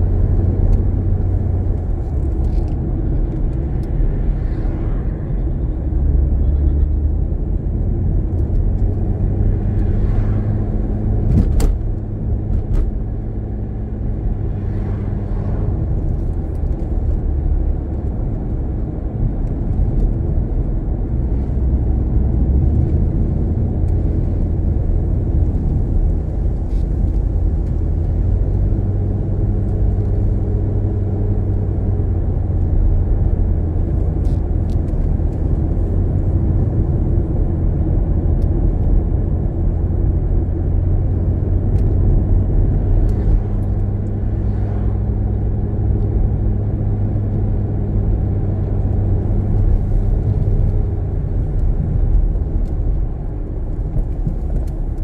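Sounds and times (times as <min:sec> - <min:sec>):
car engine and tyre rumble: 0:00.0 - 0:55.0
faint engine hum: 0:00.0 - 0:55.0.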